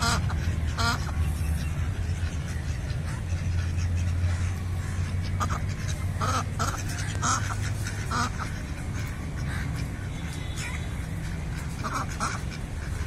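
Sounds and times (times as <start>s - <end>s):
ducks quacking: 0.0s - 13.0s
steady low hum: 0.0s - 13.0s.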